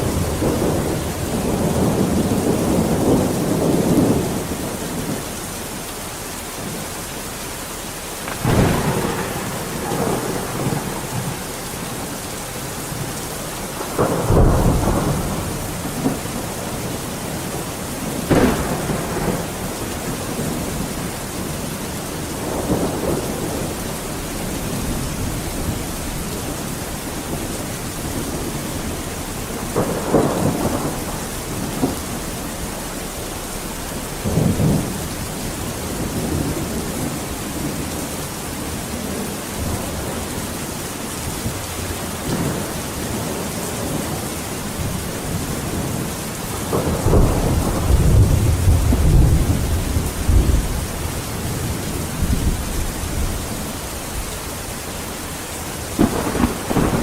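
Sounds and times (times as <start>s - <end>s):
thunder rumbling: 0.0s - 5.8s, 8.0s - 57.0s
heavy rain: 0.0s - 57.0s.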